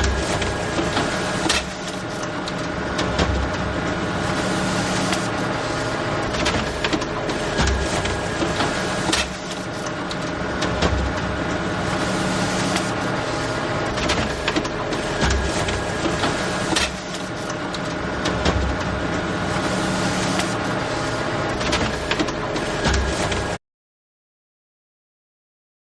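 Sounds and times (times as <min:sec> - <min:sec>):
photocopier whir and hum: 0:00.0 - 0:23.6.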